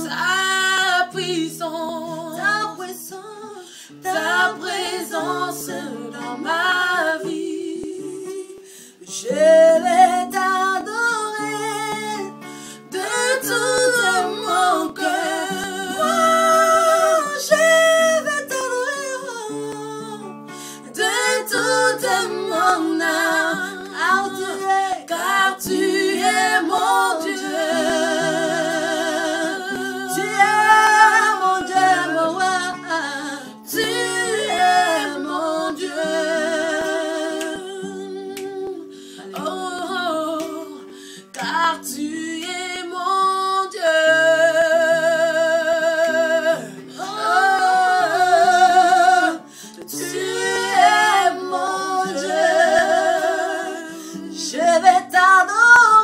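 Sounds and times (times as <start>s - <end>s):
women singing with vibrato: 0.0s - 56.0s.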